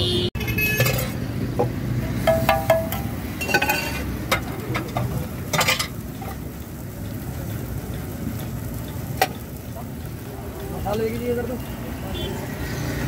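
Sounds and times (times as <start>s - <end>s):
food sizzling on griddle: 0.5s - 13.0s.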